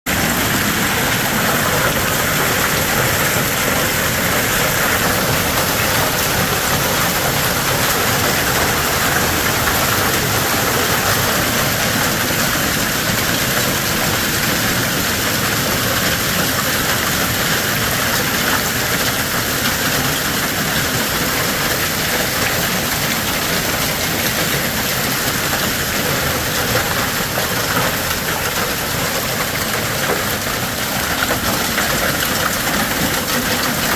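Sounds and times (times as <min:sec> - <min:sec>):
hail and rain pelting: 0:00.1 - 0:33.9.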